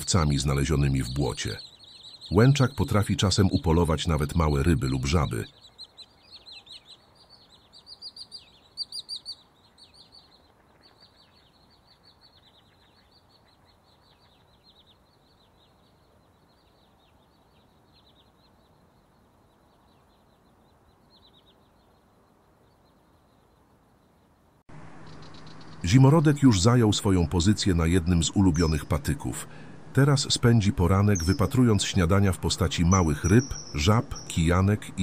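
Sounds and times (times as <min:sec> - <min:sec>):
high downward bird chirps: 0:00.0 - 0:24.1, 0:24.7 - 0:35.0.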